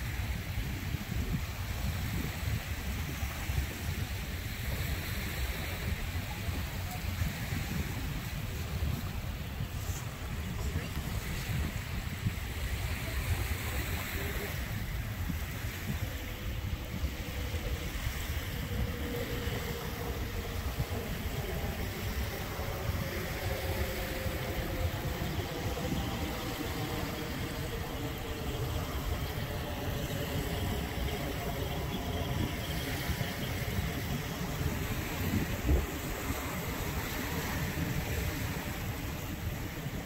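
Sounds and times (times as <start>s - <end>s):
wind rumbling on microphone: 0.0s - 40.0s
small waves lapping: 1.5s - 40.0s.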